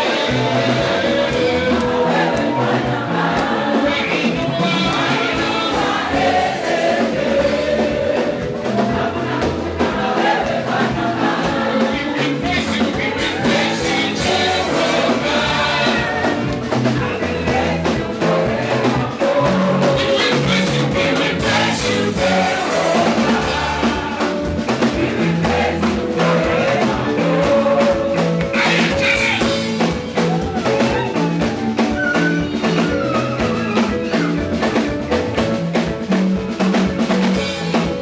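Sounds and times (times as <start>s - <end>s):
choir singing: 0.0s - 34.7s
gospel band playing: 0.0s - 38.0s
steady bass line: 0.0s - 38.0s.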